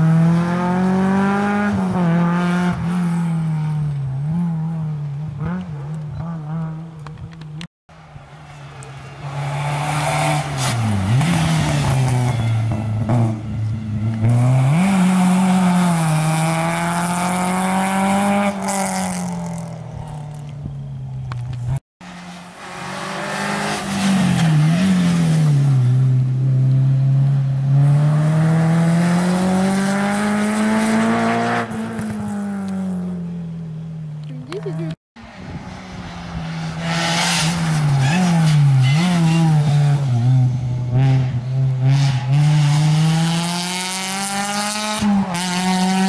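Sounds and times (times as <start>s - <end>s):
rally car engine revving: 0.0s - 7.7s, 9.0s - 20.3s, 21.6s - 33.4s, 35.8s - 46.0s.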